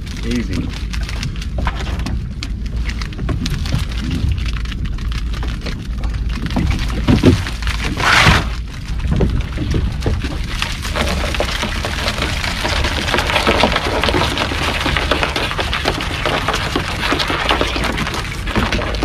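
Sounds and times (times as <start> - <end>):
steady low rumble: 0.0 - 19.0
water dripping and spattering: 0.0 - 19.0.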